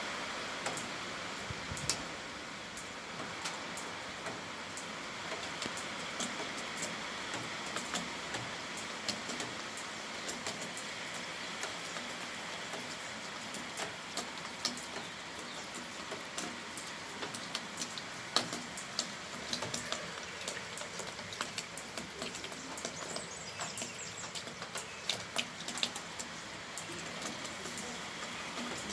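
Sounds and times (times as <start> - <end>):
rain hiss: 0.0 - 28.9
drops dripping close by: 2.7 - 28.9.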